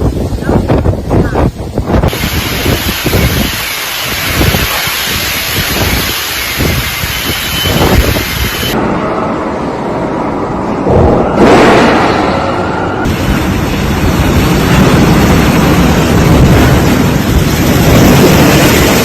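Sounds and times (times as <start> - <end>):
heavy rain: 0.0 - 19.0
wind buffeting microphone: 0.0 - 19.0.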